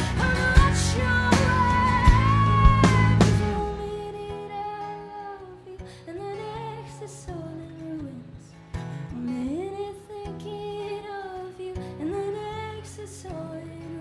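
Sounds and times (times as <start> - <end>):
acoustic guitar: 0.0 - 14.0
woman singing wordless melody: 0.0 - 14.0.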